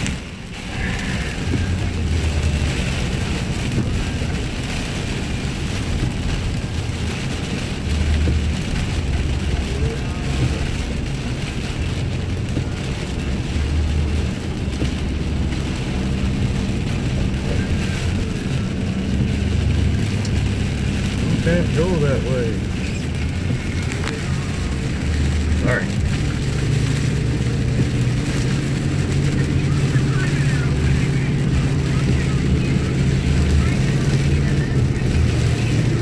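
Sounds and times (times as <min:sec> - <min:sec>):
car cabin road rumble: 0:00.0 - 0:36.0
tyre hiss on wet road: 0:00.0 - 0:36.0.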